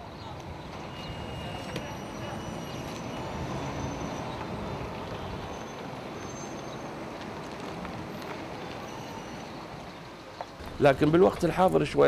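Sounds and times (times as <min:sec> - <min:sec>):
motor vehicle noise: 0:00.0 - 0:12.0.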